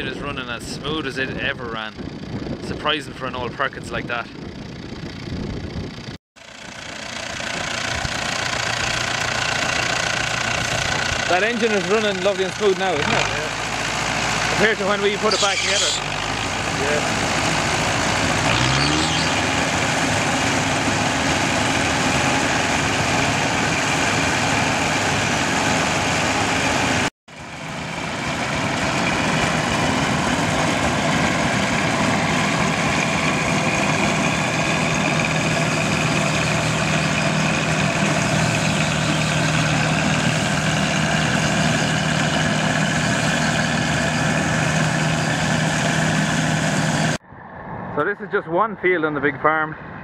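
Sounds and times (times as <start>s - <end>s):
combine harvester running: 0.0s - 47.2s.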